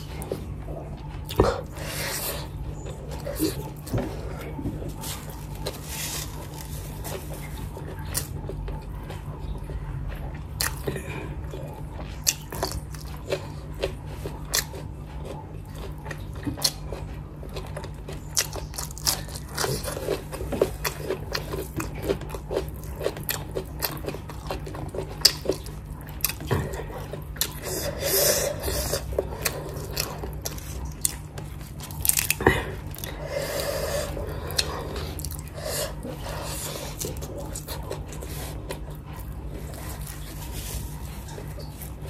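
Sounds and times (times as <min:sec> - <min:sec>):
person chewing and crunching food: 0:00.0 - 0:42.0
steady low hum: 0:00.0 - 0:42.0.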